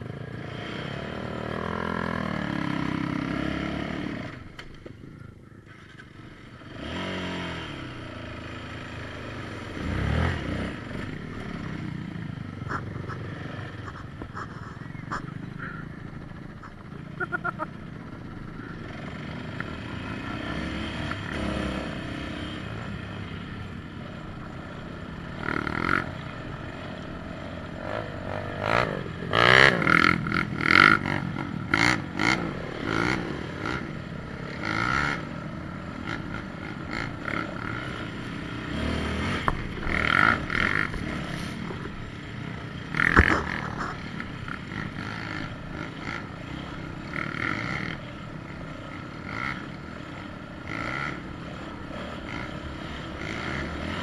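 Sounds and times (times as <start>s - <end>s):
atv engine revving: 0.0s - 5.0s, 5.6s - 54.0s.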